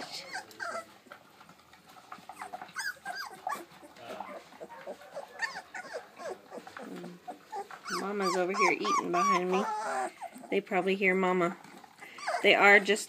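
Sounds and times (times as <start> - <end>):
puppies whimpering: 0.0 - 13.0.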